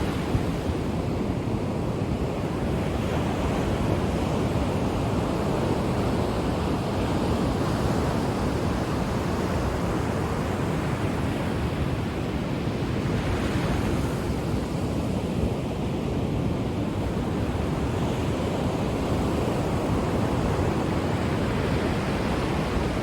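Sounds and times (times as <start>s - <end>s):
ocean surf washing onto shore: 0.0s - 23.0s.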